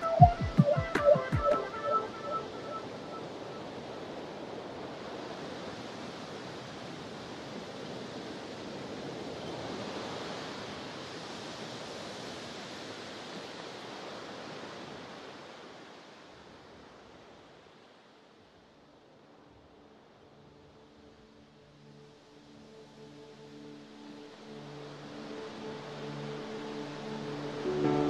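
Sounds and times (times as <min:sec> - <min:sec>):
sea waves washing at a pier: 0:00.0 - 0:28.0.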